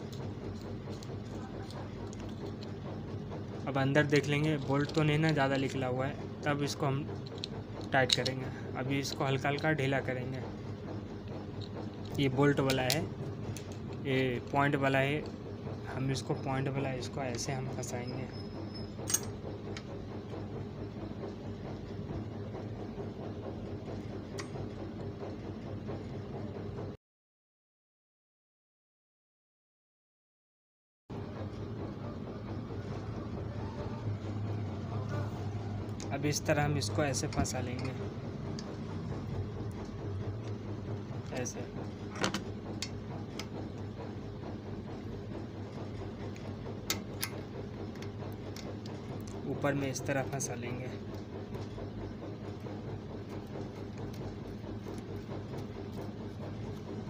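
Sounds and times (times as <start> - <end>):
low rumbling hum: 0.0 - 27.0, 31.1 - 57.0.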